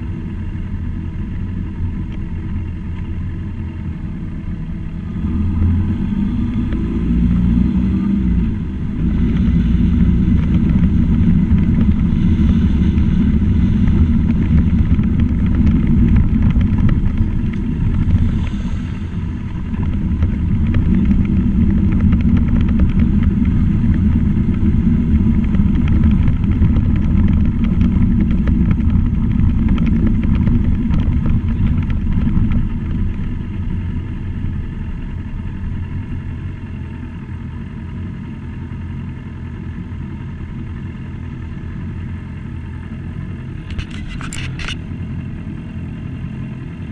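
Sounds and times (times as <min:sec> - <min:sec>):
road noise: 0:00.0 - 0:46.9
vehicle engine running: 0:00.0 - 0:46.9.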